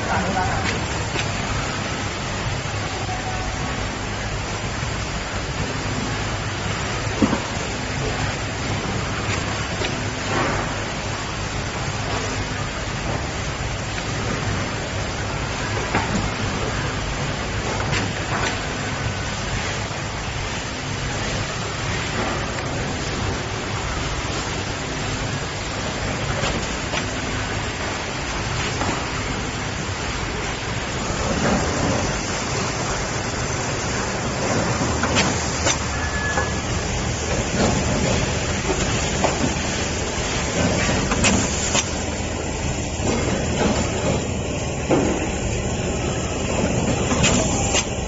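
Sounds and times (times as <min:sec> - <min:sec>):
packing machine humming: 0:00.0 - 0:48.0.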